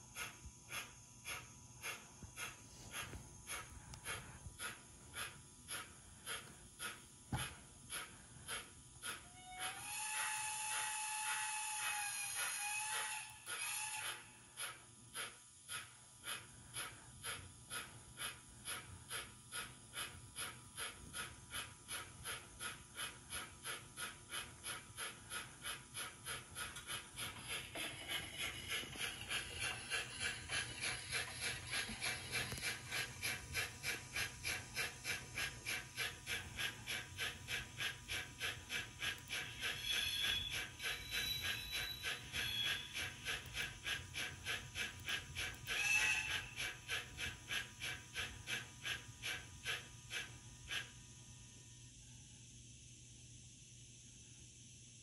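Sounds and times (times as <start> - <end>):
model steam exhaust chuffs: 0.0 - 52.0.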